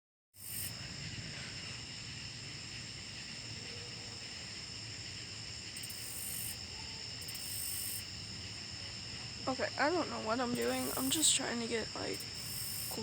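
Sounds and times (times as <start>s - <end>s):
crickets chirping: 0.4s - 13.0s
high buzzy insect trills: 0.4s - 13.0s.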